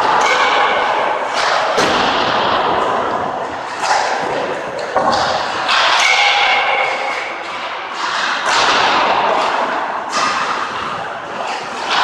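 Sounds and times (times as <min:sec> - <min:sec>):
pucks hitting net and boards: 0:00.0 - 0:12.0
sticks striking pucks: 0:00.0 - 0:12.0.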